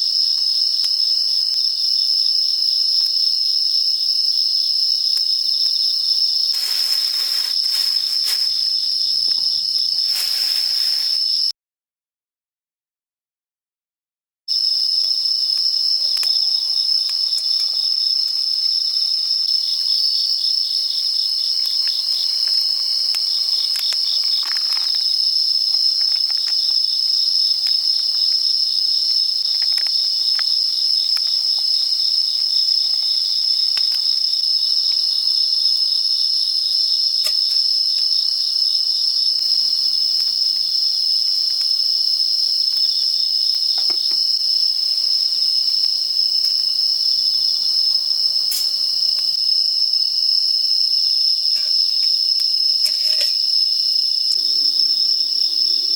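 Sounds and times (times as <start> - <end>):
insects trilling: 0.0 - 11.5, 14.5 - 55.9
rapidly pulsing insect trill: 0.0 - 11.5, 14.5 - 55.9.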